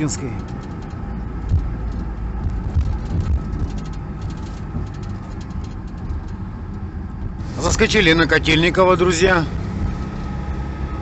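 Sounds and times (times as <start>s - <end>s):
vehicle cabin engine and road rumble: 0.0s - 11.0s.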